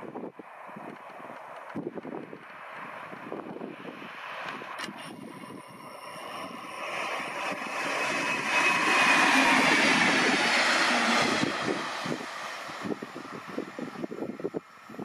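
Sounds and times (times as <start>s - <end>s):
high whine of passing train: 0.0s - 15.0s
train rushing past on rails: 0.0s - 15.0s.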